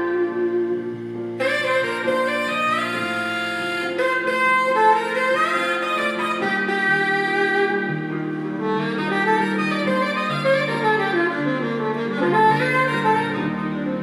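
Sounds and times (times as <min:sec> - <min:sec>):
saxophone slow melody: 0:00.0 - 0:14.0.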